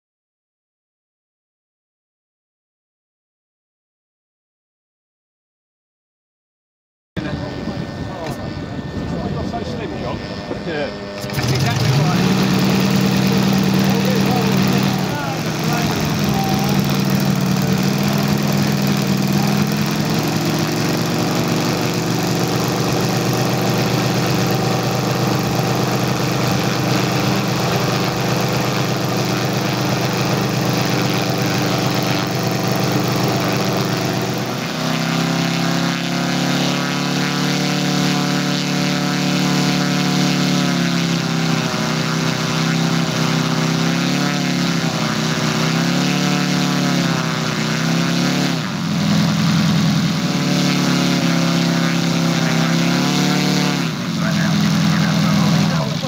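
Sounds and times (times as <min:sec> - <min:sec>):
model airplane engine running: 0:07.2 - 0:56.0.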